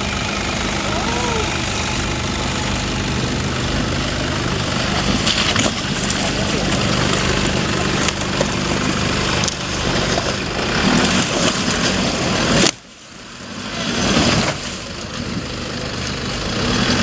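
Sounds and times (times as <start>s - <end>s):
suv engine revving under load: 0.0s - 17.0s.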